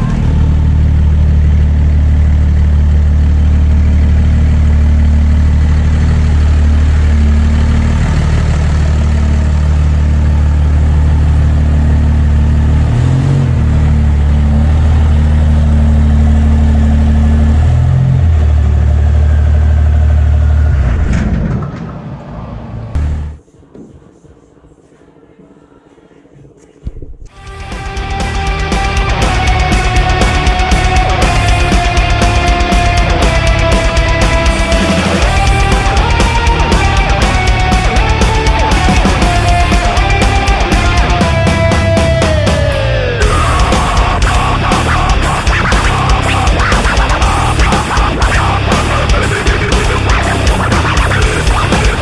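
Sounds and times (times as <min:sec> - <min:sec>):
diesel truck engine running: 0:00.0 - 0:21.7, 0:27.4 - 0:52.0.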